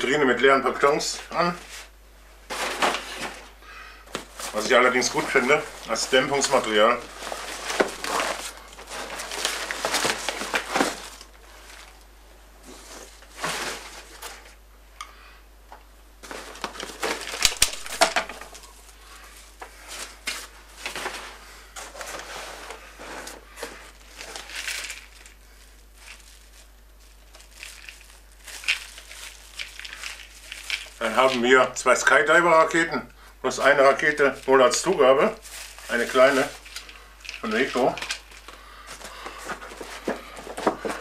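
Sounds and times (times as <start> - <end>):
cardboard rustling and crinkling: 0.8 - 14.6, 16.2 - 32.3, 33.6 - 41.0.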